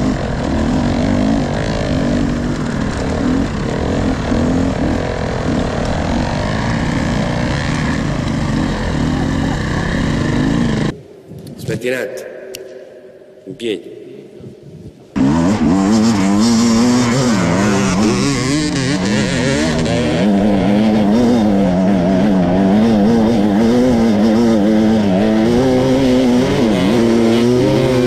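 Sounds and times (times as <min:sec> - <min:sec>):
dirt bike engine revving: 0:00.0 - 0:11.0, 0:15.2 - 0:28.0.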